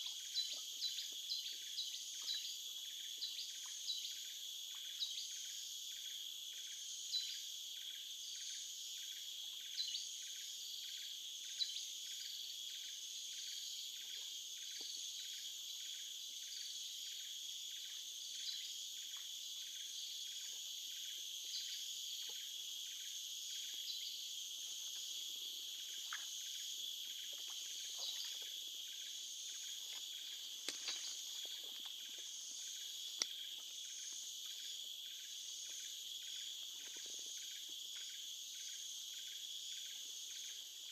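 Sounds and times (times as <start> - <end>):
insects pulsing chorus: 0.0 - 40.9.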